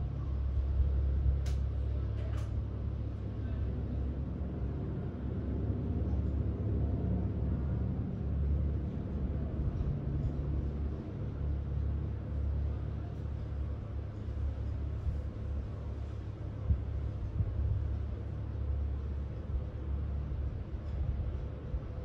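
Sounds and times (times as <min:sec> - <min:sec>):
ship engine rumble: 0:00.0 - 0:22.0.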